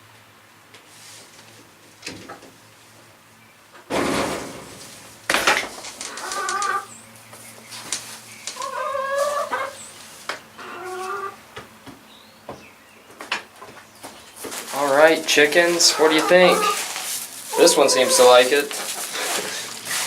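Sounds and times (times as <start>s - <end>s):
chickens calling: 3.7s - 20.0s.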